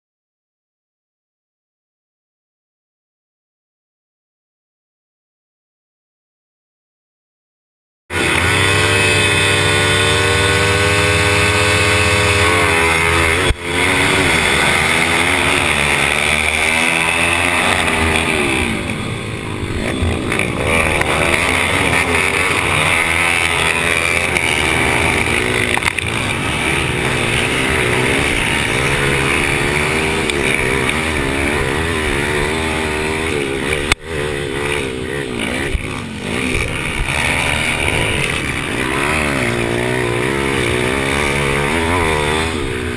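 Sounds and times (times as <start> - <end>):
small motorcycle engines racing: 8.1 - 42.9.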